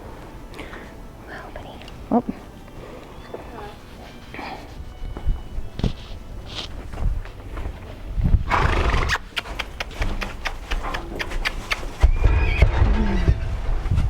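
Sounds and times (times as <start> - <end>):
hooves clopping: 2.6 - 14.0.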